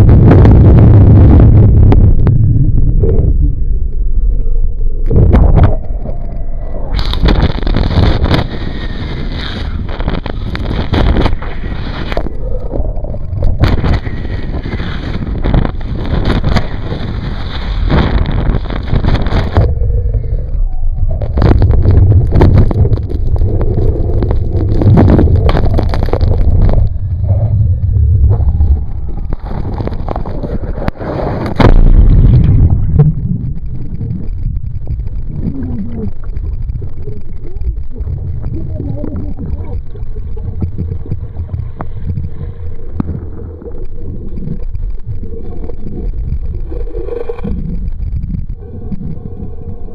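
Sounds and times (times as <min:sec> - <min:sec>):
boat engine rumble: 0:00.0 - 0:49.9
wind on microphone: 0:00.0 - 0:49.9.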